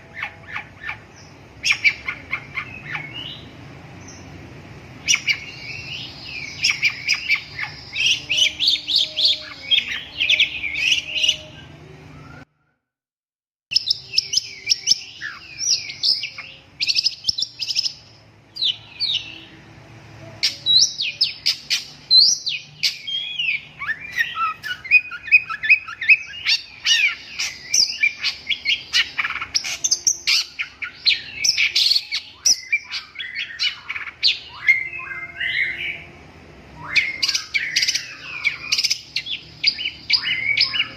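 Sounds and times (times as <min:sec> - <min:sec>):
bird singing chirps and trills: 0:00.0 - 0:12.5, 0:13.7 - 0:40.9.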